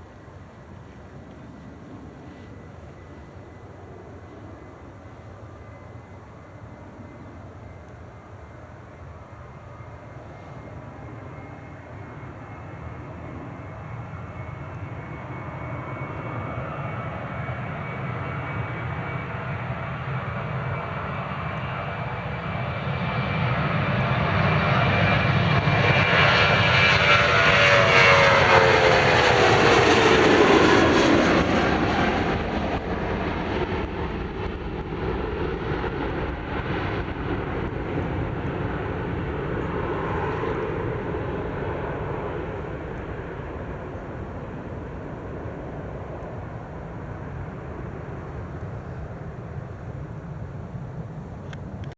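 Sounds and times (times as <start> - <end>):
jet airliner passing: 0.0 - 51.9
jet engine whine: 0.0 - 51.9.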